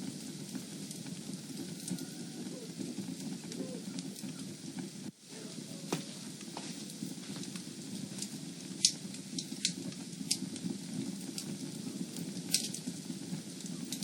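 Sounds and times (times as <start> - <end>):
fire crackling and popping: 0.0 - 14.0
fire flames rustling: 0.0 - 14.0.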